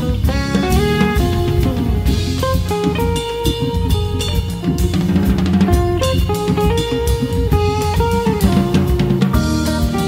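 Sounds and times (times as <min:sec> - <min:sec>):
drum kit: 0:00.0 - 0:10.0
electric guitar single notes: 0:00.0 - 0:10.0.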